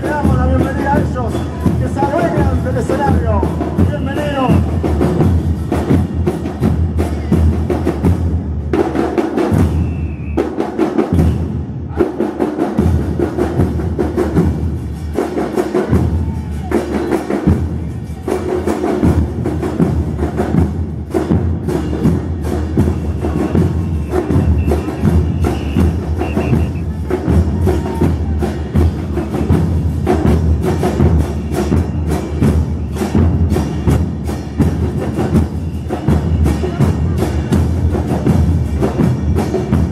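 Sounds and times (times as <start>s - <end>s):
bass drums with cymbals: 0.0s - 39.9s
snare drums: 0.0s - 39.9s.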